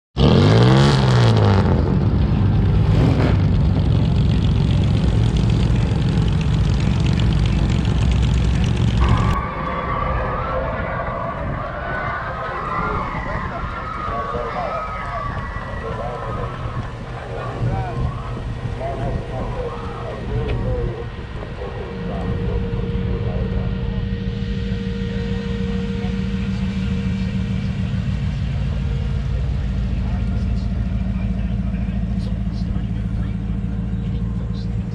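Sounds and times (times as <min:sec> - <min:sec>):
car engine running: 0:00.2 - 0:34.9.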